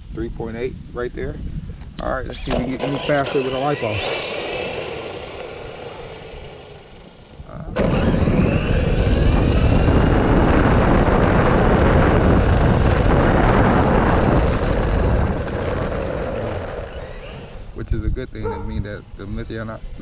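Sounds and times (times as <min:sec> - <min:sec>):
rc car motor whining: 0:02.3 - 0:17.8, 0:19.0 - 0:20.0.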